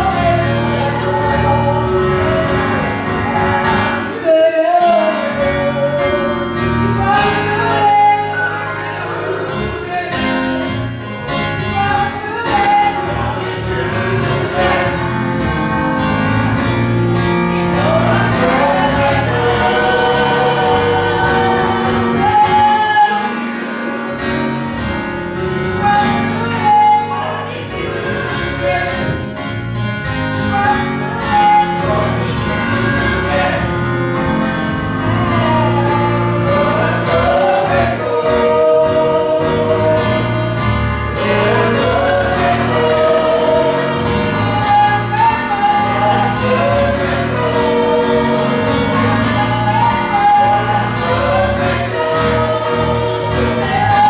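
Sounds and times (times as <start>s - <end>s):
choir singing gospel: 0.0s - 54.0s
instrumental accompaniment: 0.0s - 54.0s
steady bass: 9.1s - 22.8s, 24.2s - 54.0s.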